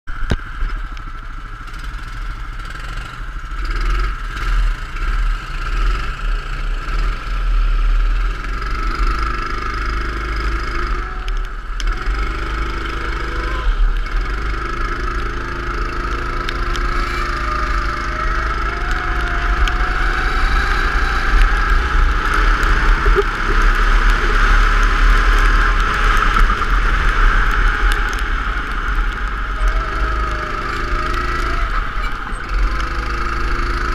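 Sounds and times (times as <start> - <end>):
go-kart engine revving: 0.3 - 33.9.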